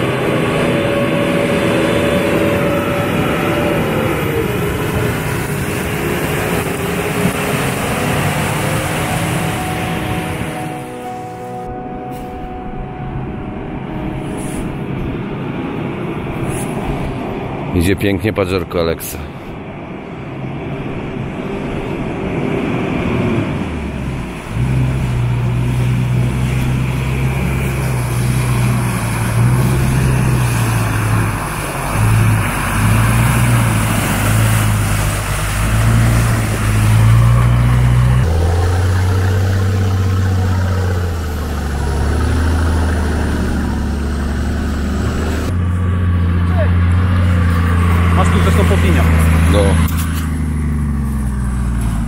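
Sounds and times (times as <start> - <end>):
suv engine labouring in mud: 0.0 - 11.8, 14.3 - 52.0
low engine drone: 0.0 - 52.0.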